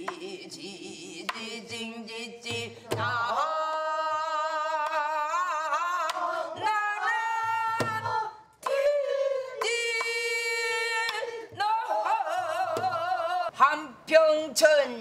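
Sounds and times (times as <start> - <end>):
woman singing with vibrato: 0.0 - 15.0.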